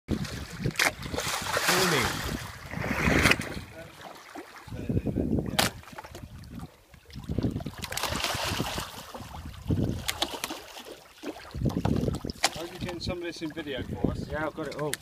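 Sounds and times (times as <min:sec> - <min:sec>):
wind buffeting microphone: 0:00.1 - 0:03.9, 0:04.6 - 0:10.2, 0:11.4 - 0:15.0
water washing against hull: 0:00.1 - 0:15.0.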